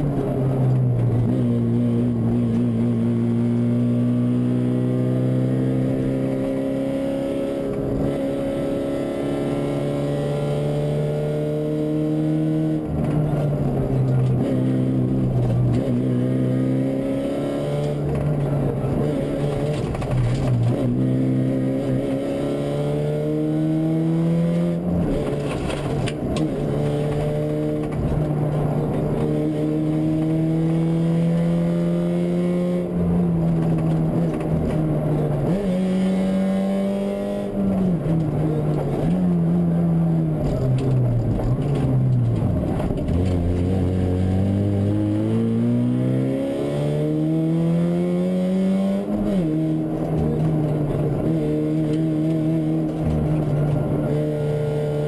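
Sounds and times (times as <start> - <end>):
rally car engine shifting gears: 0.0 - 55.0.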